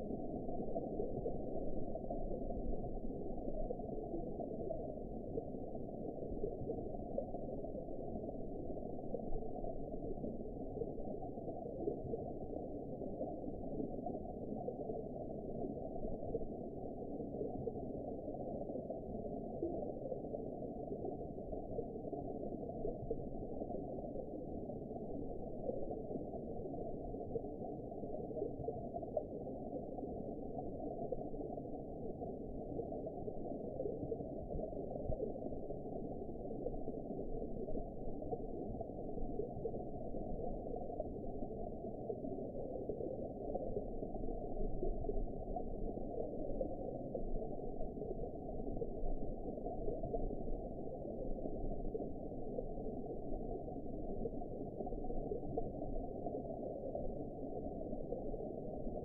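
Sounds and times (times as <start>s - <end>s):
muffled underwater rush of water: 0.0s - 59.0s.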